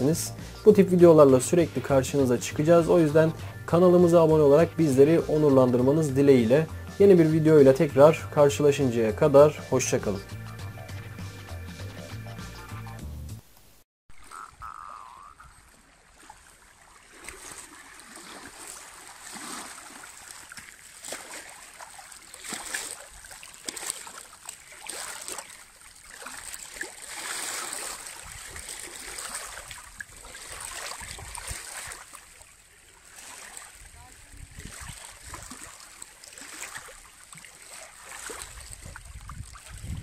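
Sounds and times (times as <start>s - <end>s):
water splashing and trickling: 0.0s - 10.3s, 14.2s - 40.0s.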